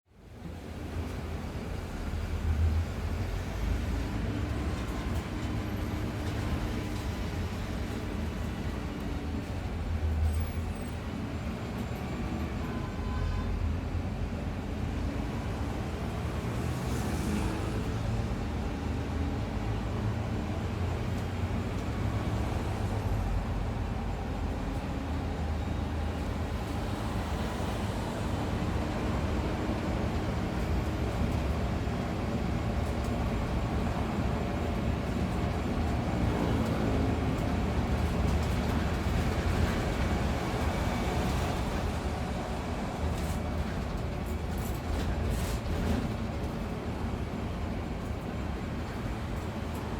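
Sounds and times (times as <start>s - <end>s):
bus engine and road rumble: 0.1s - 49.9s.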